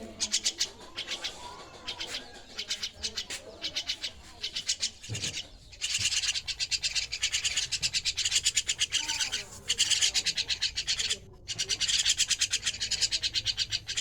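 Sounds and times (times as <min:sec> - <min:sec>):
young starling rasping calls: 0:00.0 - 0:14.0.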